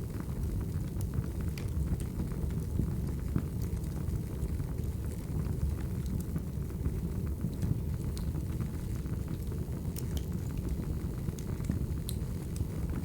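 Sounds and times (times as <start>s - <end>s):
fire crackles and pops: 0.0s - 13.0s.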